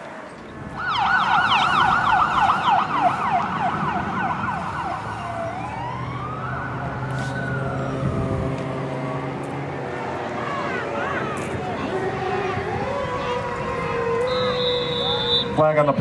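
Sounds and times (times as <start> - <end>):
siren yelping: 0.8 - 9.3, 10.0 - 15.8
siren wailing: 0.8 - 16.0.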